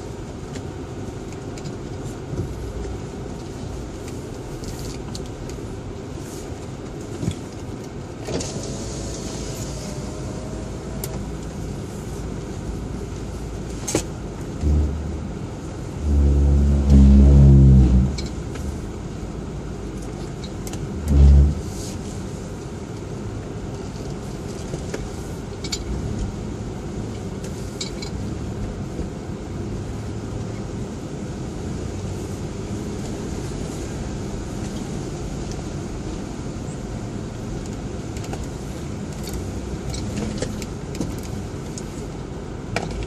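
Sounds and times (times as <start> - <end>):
vehicle engine from inside cab: 0.0 - 43.0.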